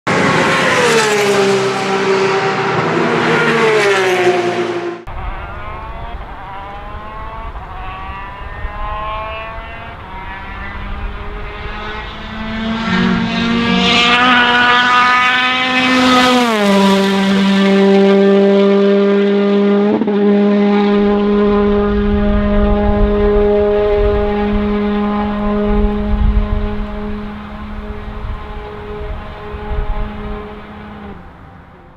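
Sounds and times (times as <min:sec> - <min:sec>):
rally car engine revving: 0:00.1 - 0:31.9.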